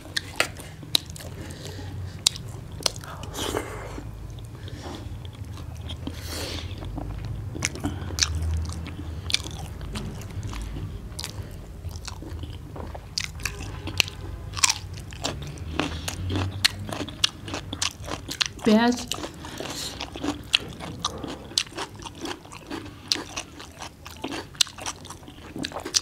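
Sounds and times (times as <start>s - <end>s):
wet chewing: 0.0s - 26.0s.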